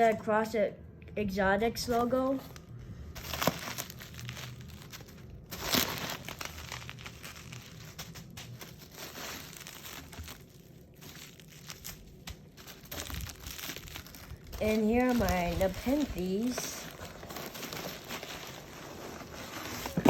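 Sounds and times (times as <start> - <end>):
packaging crinkling and rustling: 1.8 - 20.0.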